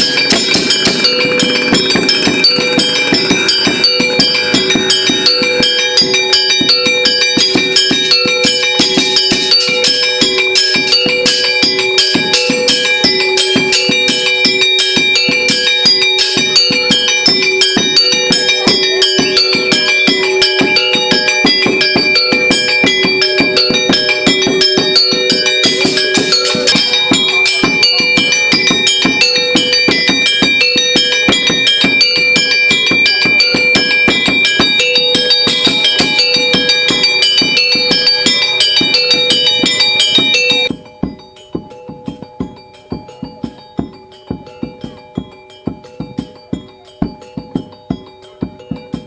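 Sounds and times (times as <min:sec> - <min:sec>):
fast bell-like beat music: 0:00.0 - 0:49.0.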